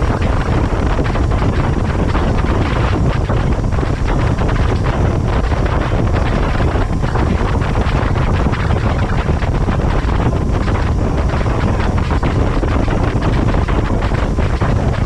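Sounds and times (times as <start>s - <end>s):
boat wake rushing: 0.0s - 15.0s
motorboat engine: 0.0s - 15.0s
wind buffeting microphone: 0.0s - 15.0s.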